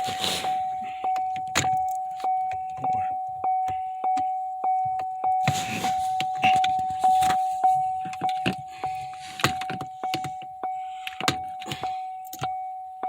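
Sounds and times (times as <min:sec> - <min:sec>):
steady high tone: 0:00.0 - 0:11.2.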